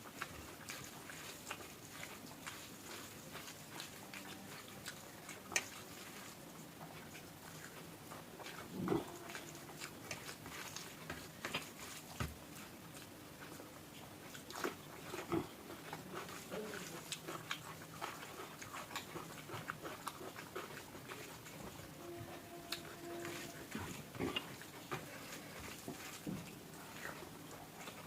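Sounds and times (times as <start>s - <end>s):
person chewing with wet mouth sounds: 0.0s - 28.0s.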